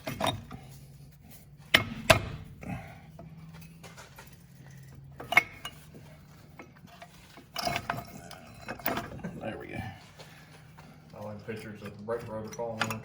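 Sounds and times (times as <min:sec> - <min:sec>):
metal tools clinking: 0:00.0 - 0:13.0.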